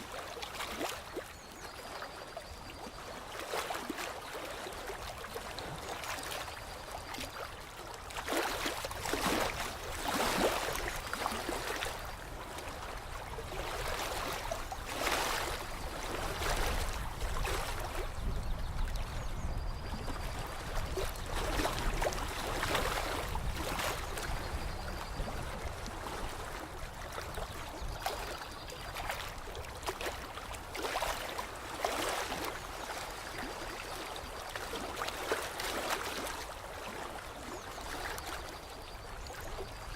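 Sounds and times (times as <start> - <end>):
water lapping and splashing: 0.0 - 39.9.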